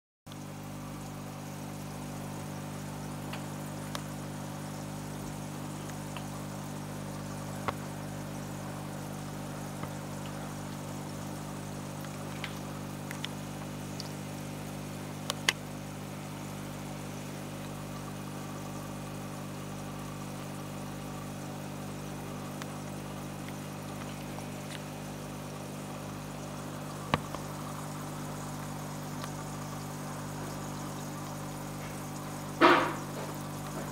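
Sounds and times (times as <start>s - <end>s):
aquarium filter humming: 0.3s - 33.9s
moving water: 0.3s - 33.9s.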